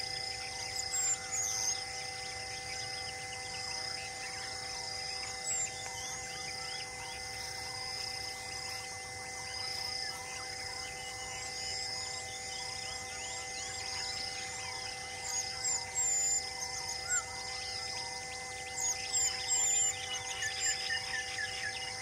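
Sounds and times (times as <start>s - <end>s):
insects shrilling with pulsing buzz: 0.0s - 22.0s.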